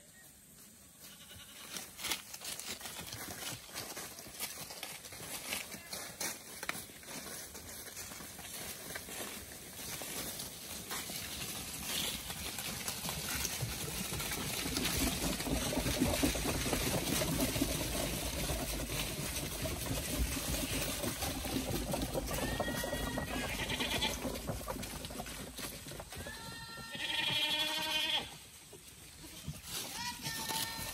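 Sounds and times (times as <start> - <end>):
hooves crunching through dry leaves: 0.4 - 30.9.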